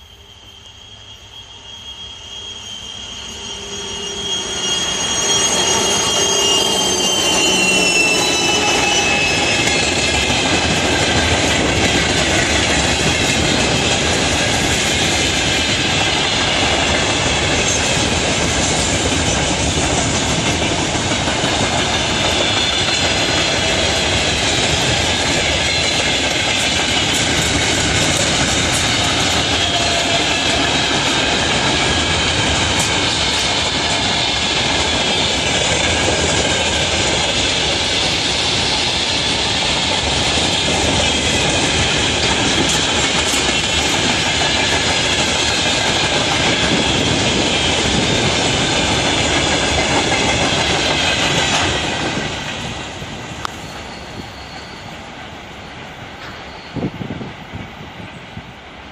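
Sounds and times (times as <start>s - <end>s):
freight train rumbling: 0.0s - 58.9s
wheels clattering on rails: 4.5s - 55.3s.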